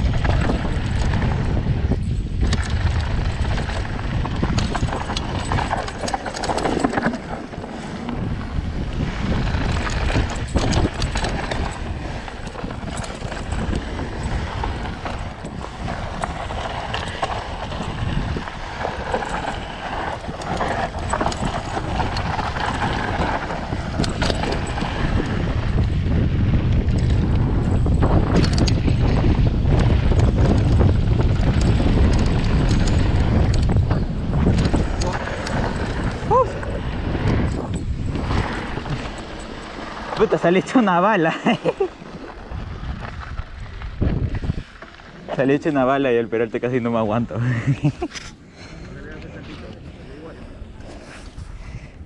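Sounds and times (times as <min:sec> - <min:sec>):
bike rattling over bumps: 0:00.0 - 0:52.0
wind rumble on microphone: 0:00.0 - 0:52.0
tyres crunching over gravel: 0:02.6 - 0:25.7, 0:28.8 - 0:47.8.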